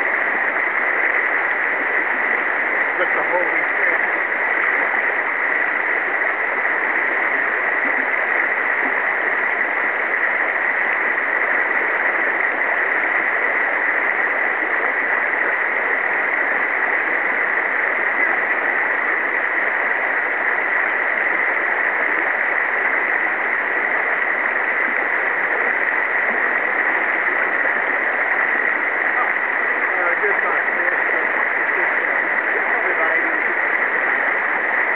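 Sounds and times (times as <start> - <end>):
river water rushing over rocks: 0.0 - 34.9.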